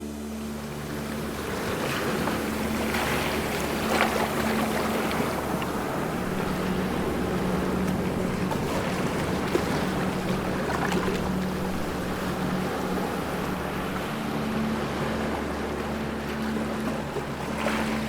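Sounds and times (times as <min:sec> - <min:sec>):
ocean waves splashing: 0:00.0 - 0:18.0.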